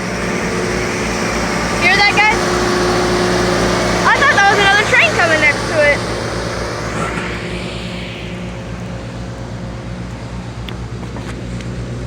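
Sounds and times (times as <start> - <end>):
freight train passing: 0.0 - 12.0
low engine hum: 0.0 - 12.0.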